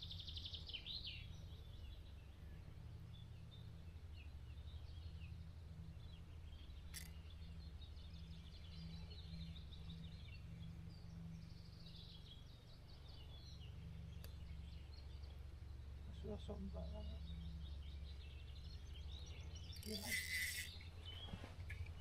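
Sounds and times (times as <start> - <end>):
low outdoor rumble: 0.0 - 22.0
songbirds chirping: 0.0 - 22.0.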